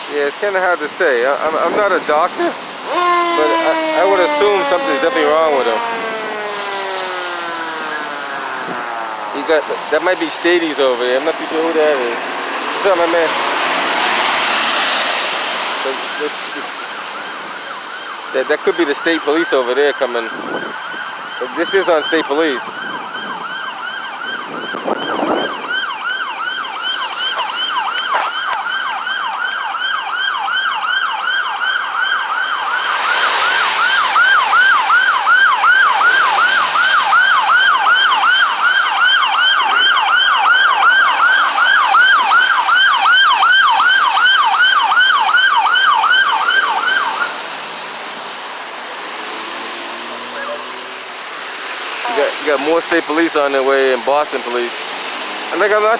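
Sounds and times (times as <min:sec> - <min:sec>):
emergency siren yelping: 0:01.0 - 0:53.2.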